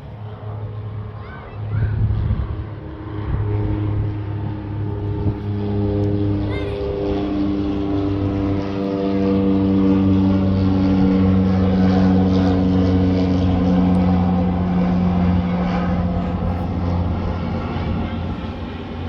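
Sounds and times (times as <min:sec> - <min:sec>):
propeller plane droning past: 0:00.0 - 0:19.0.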